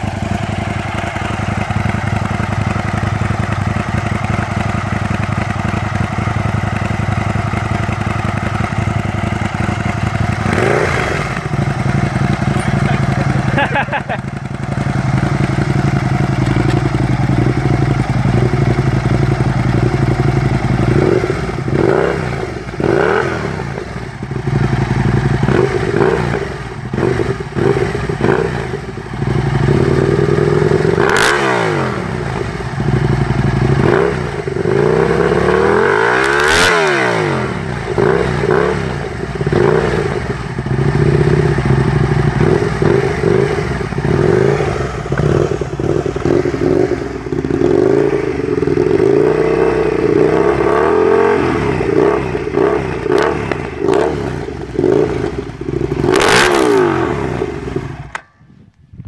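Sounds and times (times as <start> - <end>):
motorcycle engine revving: 0.0 - 58.4.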